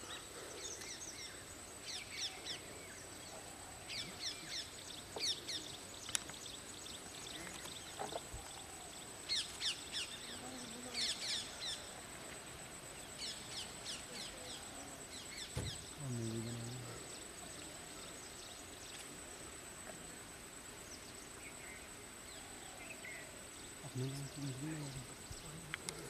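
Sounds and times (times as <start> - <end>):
birds chirping: 0.0 - 19.1, 20.8 - 26.0
low outdoor background: 0.0 - 26.0.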